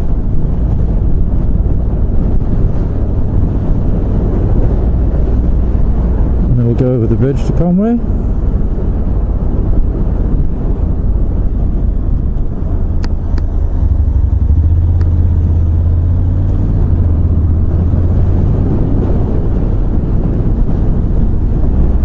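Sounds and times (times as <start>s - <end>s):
motorcycle engine rumble: 0.0s - 22.0s
wind and road noise: 0.0s - 22.0s.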